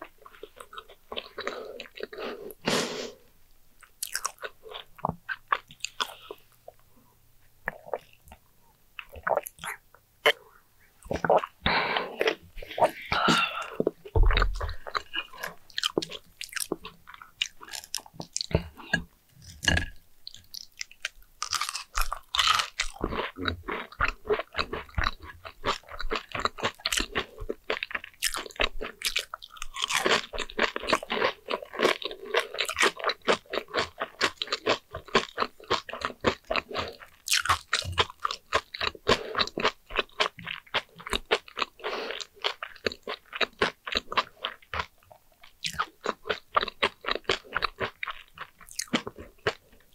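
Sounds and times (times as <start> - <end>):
crunchy chewing: 3.8 - 6.8, 11.0 - 49.9.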